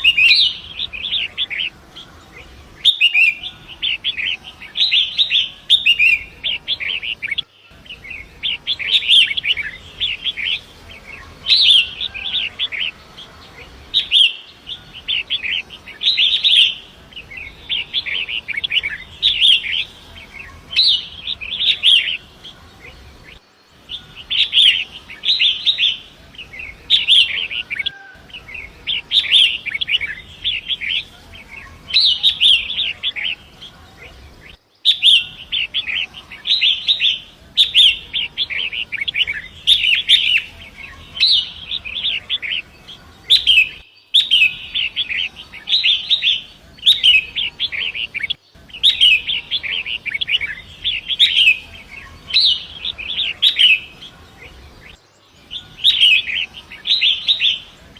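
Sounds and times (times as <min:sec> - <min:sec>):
bird harsh chattering song: 0:00.0 - 0:57.9.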